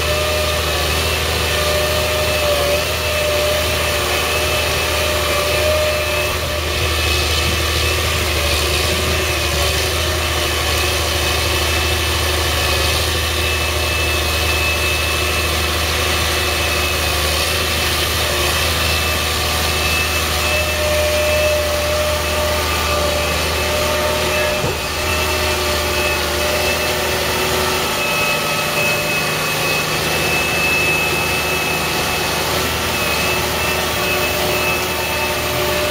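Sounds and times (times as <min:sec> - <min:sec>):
steady whine: 0:00.0 - 0:35.9
tractor diesel engine under load: 0:00.0 - 0:35.9.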